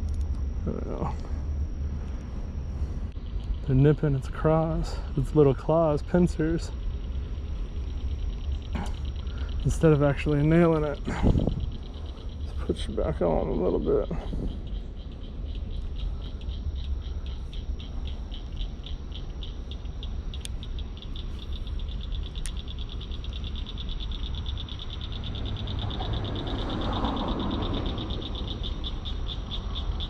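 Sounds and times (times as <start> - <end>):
frogs calling: 0.0 - 30.0
low rumble: 0.0 - 30.0.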